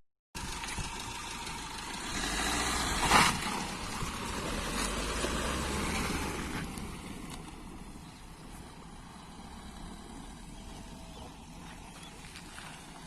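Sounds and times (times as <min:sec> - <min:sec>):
road vehicle noise: 0:00.3 - 0:13.0.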